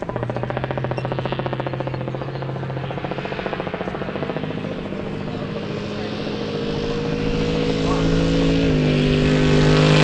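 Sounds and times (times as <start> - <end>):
truck engine running hard: 0.0 - 10.0.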